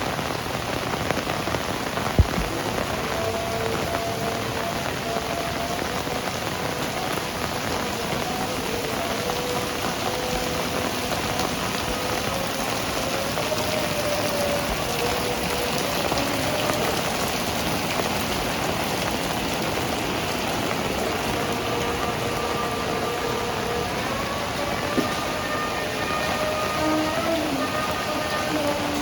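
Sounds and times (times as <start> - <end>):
heavy rain splashing: 0.0 - 29.0.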